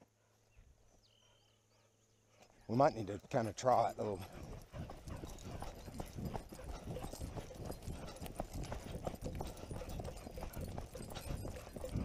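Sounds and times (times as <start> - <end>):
footsteps on dirt track: 2.4 - 12.0.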